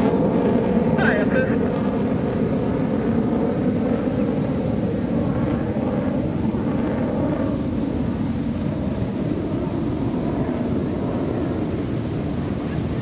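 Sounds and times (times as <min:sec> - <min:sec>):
distant jet engines roaring: 0:00.0 - 0:13.0
wind buffeting microphone: 0:00.0 - 0:13.0.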